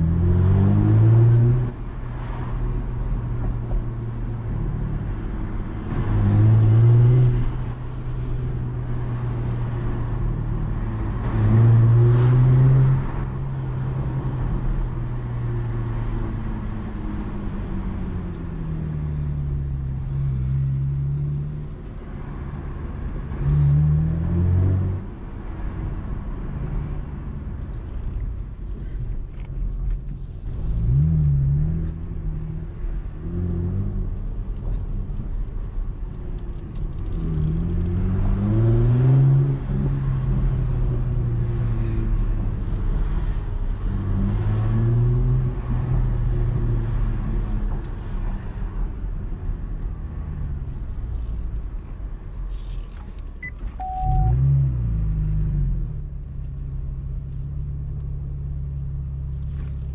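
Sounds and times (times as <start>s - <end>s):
car engine revving while driving: 0.0s - 27.8s, 29.7s - 52.4s, 53.4s - 59.9s.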